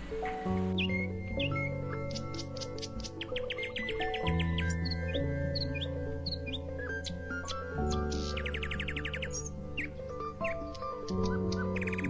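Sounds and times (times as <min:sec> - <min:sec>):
background music of held notes: 0:00.0 - 0:12.0
bird chirping in a trill: 0:00.2 - 0:12.0.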